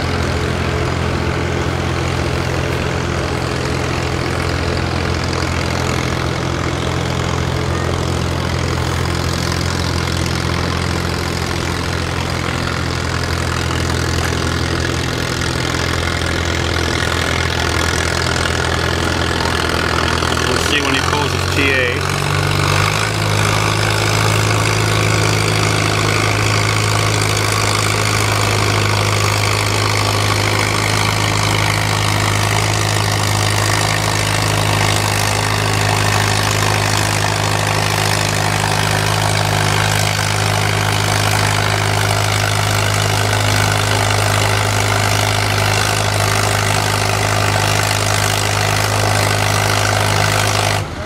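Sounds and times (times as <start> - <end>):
tractor engine running under load: 0.0 - 51.0.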